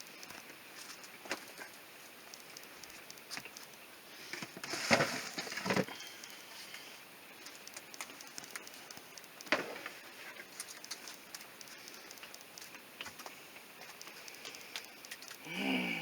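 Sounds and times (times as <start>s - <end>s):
groceries clicking and knocking: 0.0s - 15.5s
rustle and clatter: 2.4s - 15.4s.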